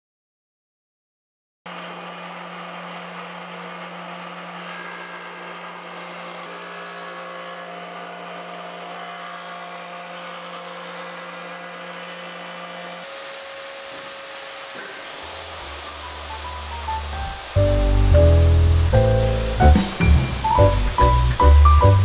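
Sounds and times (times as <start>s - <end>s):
jointer running: 1.7s - 22.0s.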